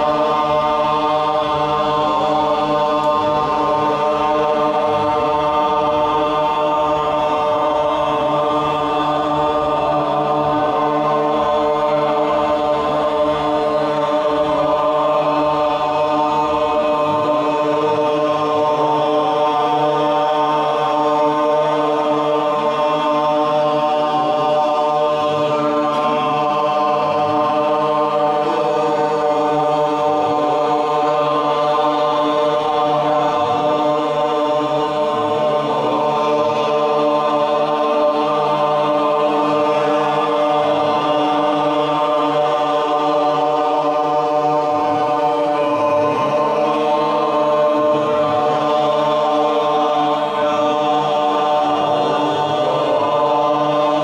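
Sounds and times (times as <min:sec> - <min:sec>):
group chanting: 0:00.0 - 0:54.0.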